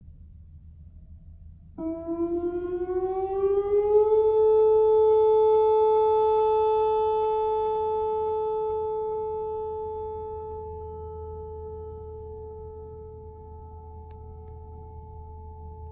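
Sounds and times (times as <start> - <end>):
outdoor warning siren: 1.7 - 15.9.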